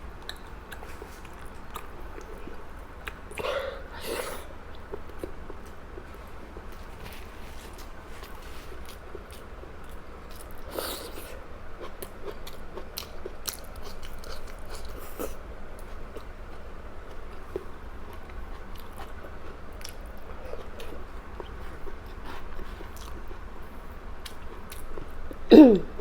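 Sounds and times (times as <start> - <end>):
steady low hum: 0.0 - 26.0
person chewing food: 0.2 - 25.4.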